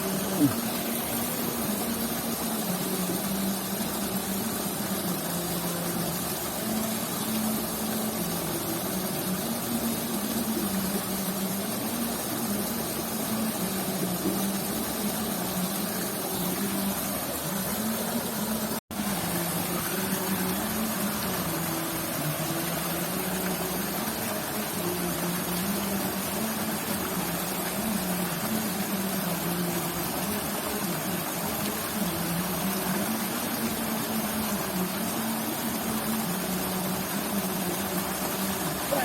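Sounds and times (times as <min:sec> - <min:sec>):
constant hiss: 0:00.0 - 0:39.0.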